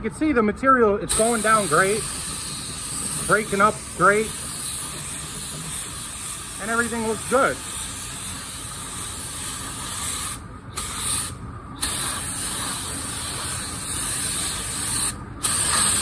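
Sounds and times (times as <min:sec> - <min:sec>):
spray gun hissing: 0:01.1 - 0:16.0.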